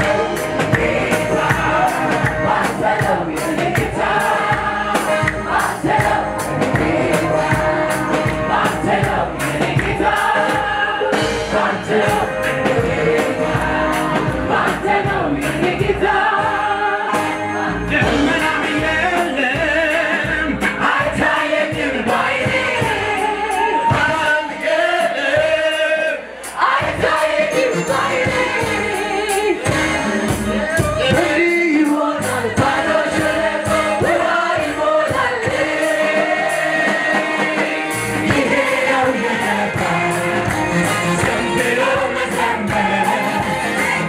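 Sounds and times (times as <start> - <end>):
band with drums: 0.0 - 44.0
choir singing gospel song: 0.0 - 44.0.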